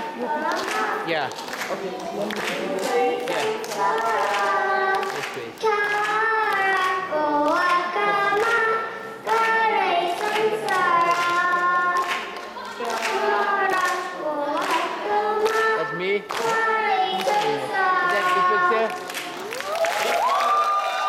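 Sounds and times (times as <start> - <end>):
girl singing into a microphone: 0.0 - 19.5.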